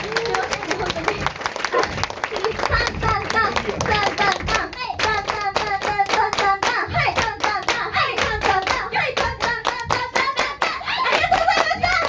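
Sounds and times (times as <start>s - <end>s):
crowd clapping in rhythm: 0.0s - 12.0s.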